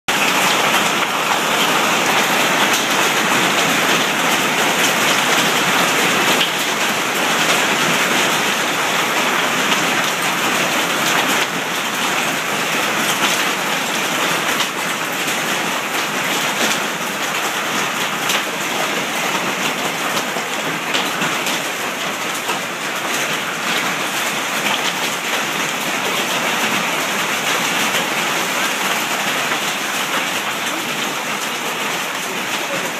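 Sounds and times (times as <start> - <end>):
hailstones pelting a deck: 0.1 - 32.9.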